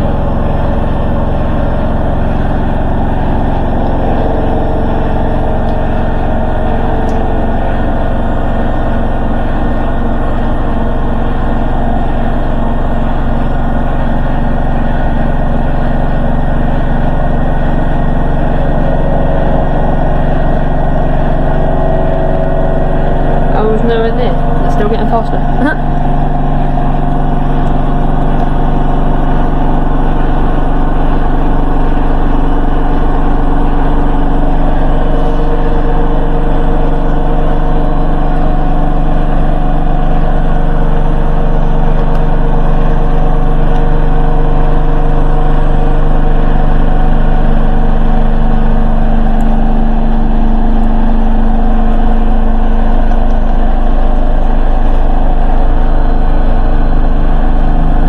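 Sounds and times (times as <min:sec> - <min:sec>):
washing machine spin cycle whine: 0:00.0 - 0:58.0.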